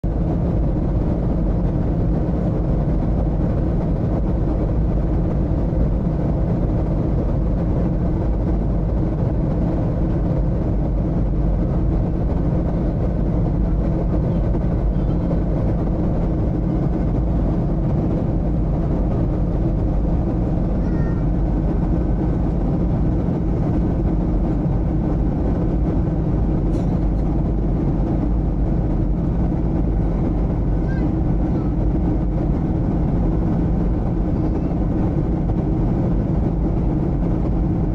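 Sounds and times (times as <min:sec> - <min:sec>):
airplane cabin rumble: 0:00.0 - 0:37.9.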